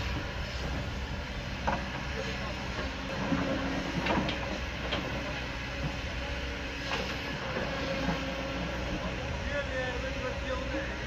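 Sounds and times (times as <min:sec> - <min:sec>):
heavy diesel machinery running: 0:00.0 - 0:11.0.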